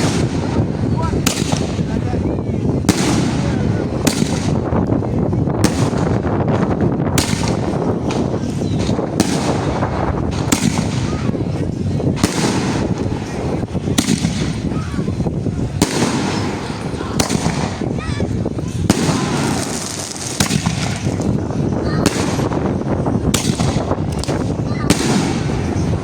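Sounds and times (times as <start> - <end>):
fireworks launching and crackling: 0.0 - 26.0
loud firework bursts: 0.0 - 26.0.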